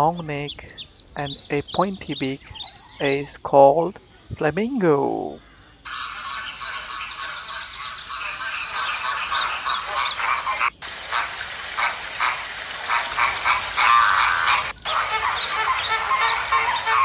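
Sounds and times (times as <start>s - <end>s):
flamingos calling: 0.0s - 17.0s.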